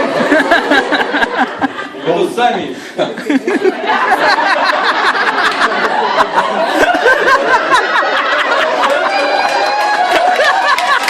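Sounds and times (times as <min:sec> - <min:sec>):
crowd laughing and chattering: 0:00.0 - 0:11.0.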